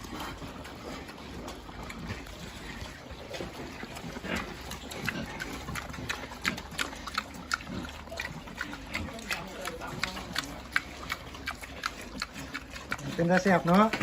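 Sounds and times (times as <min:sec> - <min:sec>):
pigs grunting: 0:00.0 - 0:14.0
wet chewing and slurping: 0:00.0 - 0:14.0.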